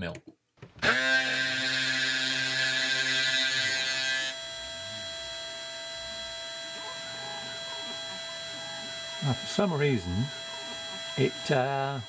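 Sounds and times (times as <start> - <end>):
spindle motor whine: 0.8 - 12.0
stepper motor tones: 0.8 - 12.0.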